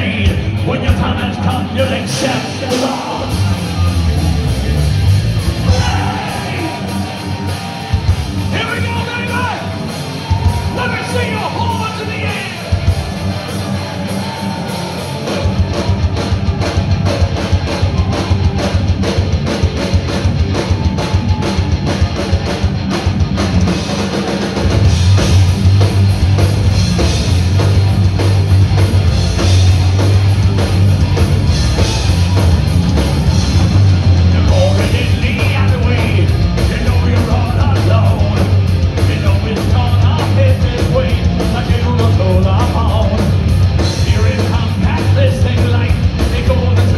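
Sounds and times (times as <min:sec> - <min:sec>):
distorted electric guitars: 0:00.0 - 0:46.9
electric bass: 0:00.0 - 0:46.9.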